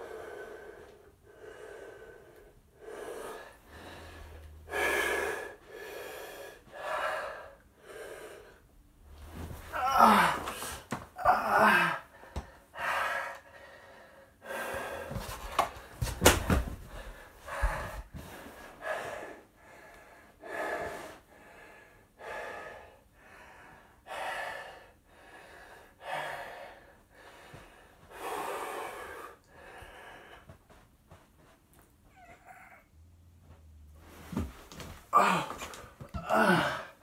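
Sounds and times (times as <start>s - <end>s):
man breathing hard: 0.0s - 30.8s, 34.3s - 37.0s.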